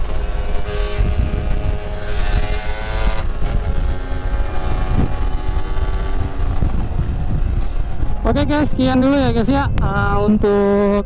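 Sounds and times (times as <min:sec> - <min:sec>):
two-stroke motorcycle engine running: 0:00.0 - 0:10.7
low wind rumble on microphone: 0:00.0 - 0:11.0.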